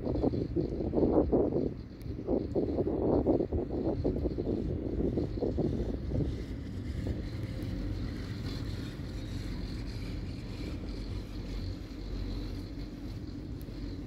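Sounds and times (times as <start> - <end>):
chairlift low rumble: 0.0 - 14.0
faint high whine: 0.0 - 14.0
wind buffeting microphone: 0.0 - 14.0.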